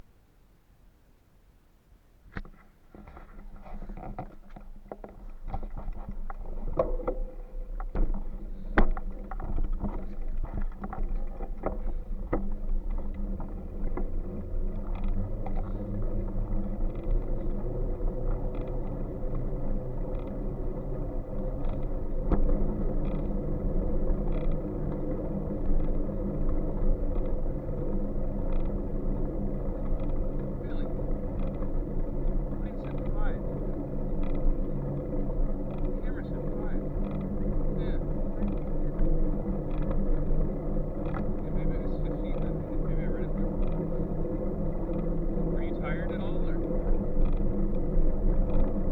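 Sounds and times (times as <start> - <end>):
bike knocks and rattles: 2.4 - 48.9
low riding rumble: 2.9 - 48.9.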